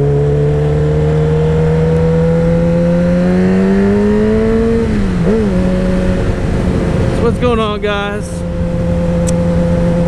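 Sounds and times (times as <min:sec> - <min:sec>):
motorcycle engine accelerating: 0:00.0 - 0:10.0
wind noise: 0:00.0 - 0:10.0.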